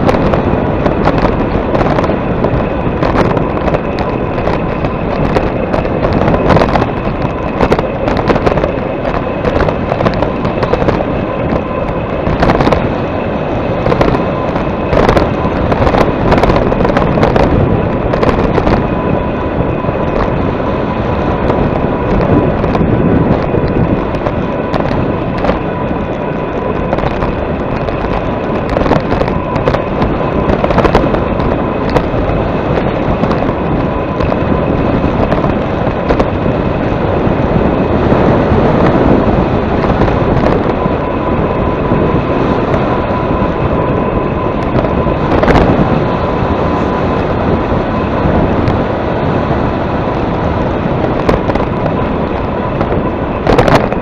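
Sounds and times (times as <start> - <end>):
faint steady whine: 0.0 - 54.0
wind buffeting microphone: 0.0 - 54.0.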